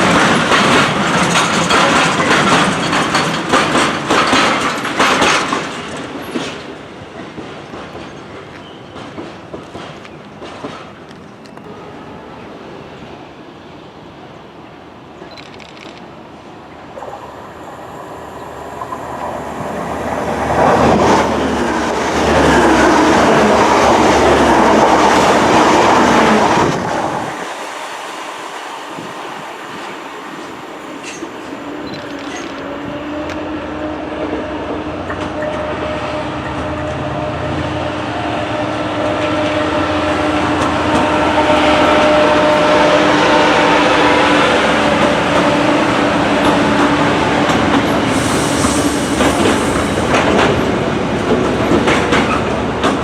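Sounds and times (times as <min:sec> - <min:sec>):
train wheels on rails: 0:00.0 - 0:12.0, 0:15.1 - 0:53.0
approaching train hum: 0:09.2 - 0:53.0.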